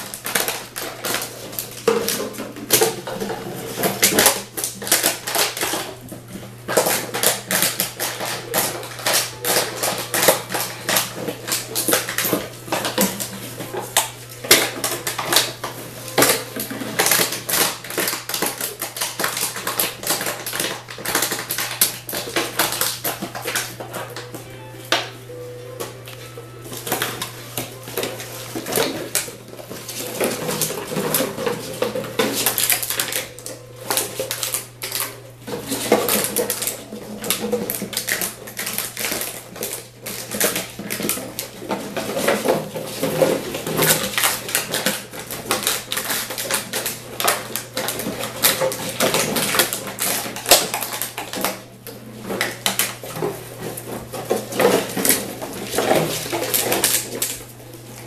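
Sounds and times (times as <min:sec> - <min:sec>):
plastic bottles clattering in a box: 0:00.0 - 0:25.1, 0:25.8 - 0:58.0.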